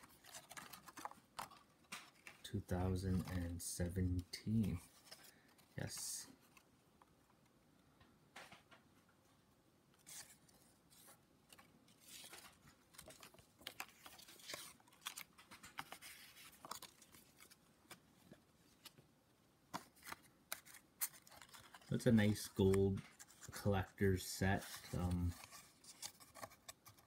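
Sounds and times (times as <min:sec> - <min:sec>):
paper rustling and scraping: 0:00.0 - 0:06.6, 0:10.0 - 0:19.0, 0:19.7 - 0:27.0.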